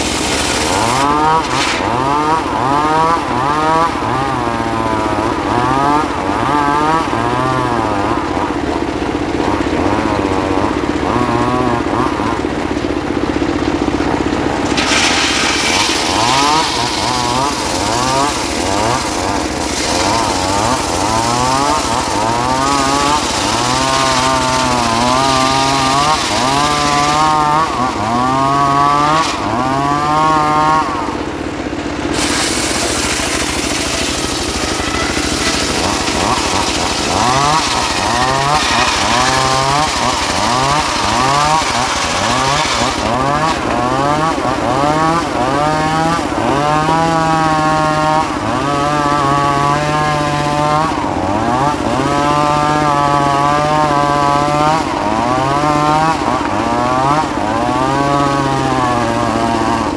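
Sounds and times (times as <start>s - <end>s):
circular saw ripping a log: 0.0s - 59.9s.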